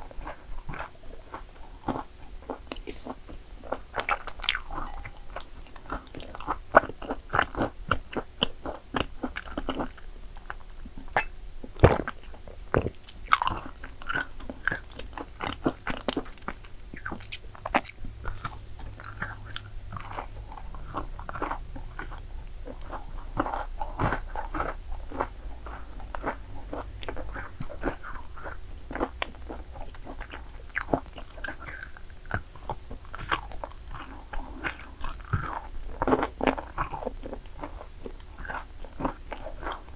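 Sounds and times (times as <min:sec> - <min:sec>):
crunchy cookies being chewed: 0:00.0 - 0:39.9.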